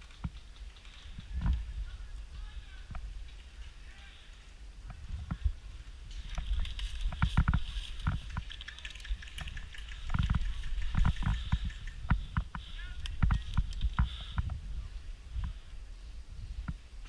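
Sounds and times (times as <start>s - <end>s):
rustling brush: 0.0s - 17.0s.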